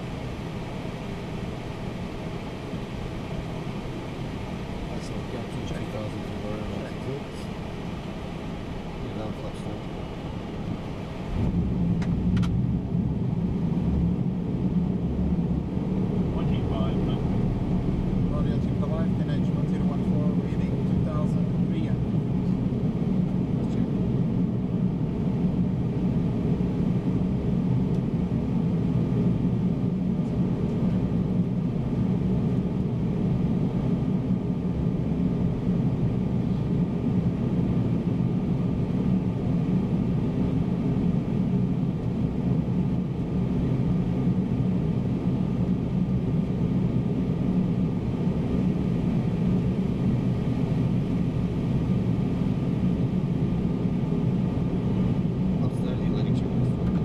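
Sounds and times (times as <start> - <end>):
cockpit airflow and engine rumble: 0.0 - 57.0.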